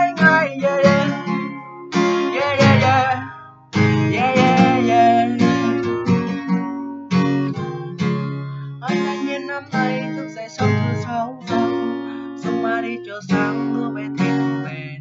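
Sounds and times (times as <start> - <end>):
man singing long notes: 0.0 - 1.5, 2.3 - 5.7, 7.5 - 15.0
acoustic guitar strumming: 0.0 - 15.0.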